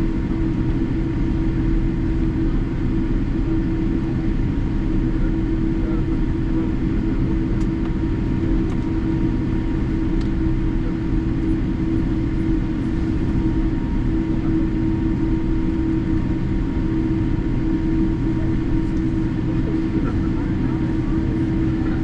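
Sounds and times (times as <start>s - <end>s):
airliner cabin engine drone: 0.0s - 22.0s.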